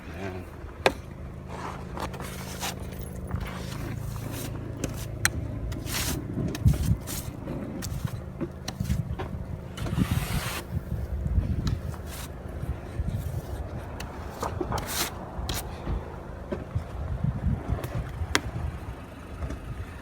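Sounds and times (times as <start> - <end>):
car engine humming: 0.0 - 20.0
low rumbles: 0.0 - 20.0.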